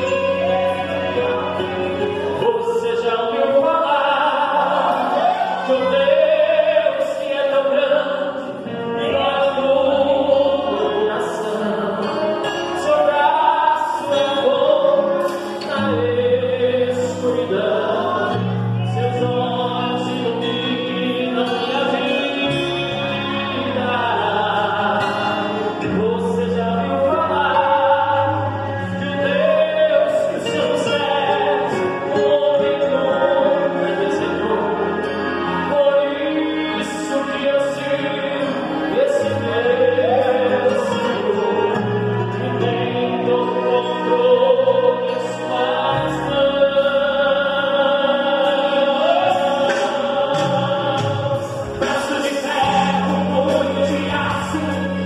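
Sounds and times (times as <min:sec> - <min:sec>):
instrumental accompaniment: 0:00.0 - 0:55.0
man singing into a microphone: 0:00.0 - 0:55.0.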